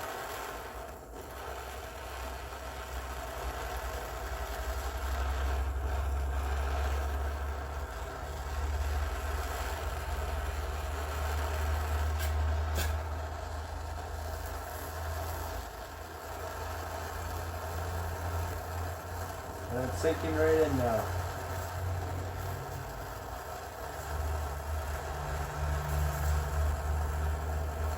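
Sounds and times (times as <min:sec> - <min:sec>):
gas torch flame rumbling: 0:00.0 - 0:27.9.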